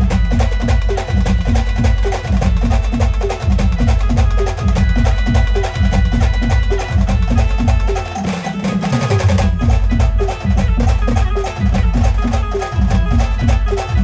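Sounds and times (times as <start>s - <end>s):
street band drumming: 0.0s - 14.0s.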